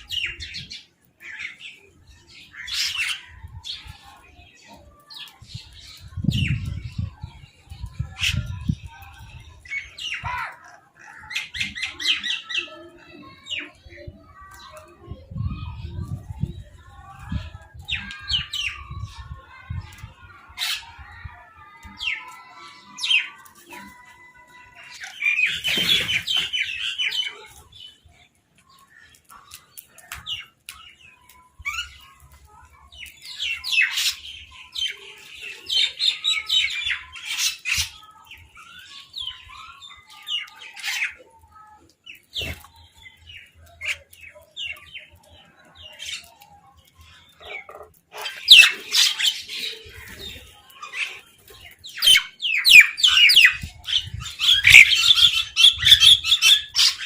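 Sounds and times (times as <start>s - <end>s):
birds squawking and calling: 0.0s - 57.0s.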